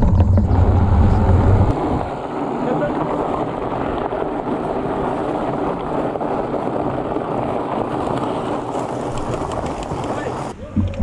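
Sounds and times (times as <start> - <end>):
bike tyres on gravel: 0.0 - 11.0
wind on microphone: 0.0 - 11.0.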